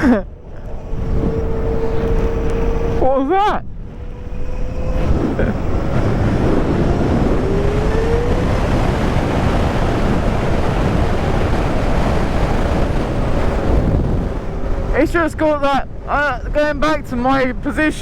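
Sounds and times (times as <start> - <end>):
electric motorcycle motor whine: 0.0 - 18.0
wind rushing over microphone: 0.0 - 18.0.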